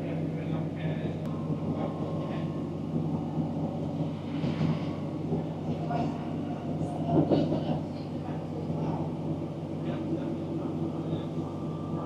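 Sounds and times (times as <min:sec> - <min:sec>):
train engine drone: 0:00.0 - 0:12.0
train rumbling on track: 0:00.0 - 0:12.0.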